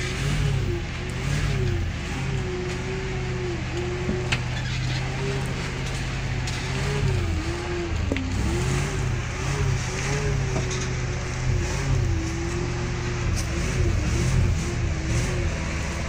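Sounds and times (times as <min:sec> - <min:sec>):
truck engine pulling in low gear: 0:00.0 - 0:16.0.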